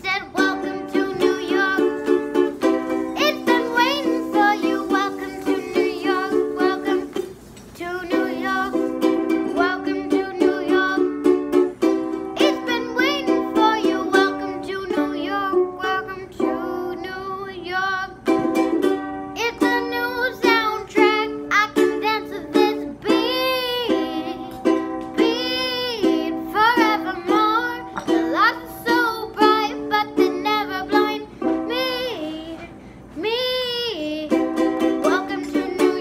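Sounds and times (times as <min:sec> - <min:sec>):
girl singing: 0:00.0 - 0:36.0
strummed ukulele: 0:00.0 - 0:36.0.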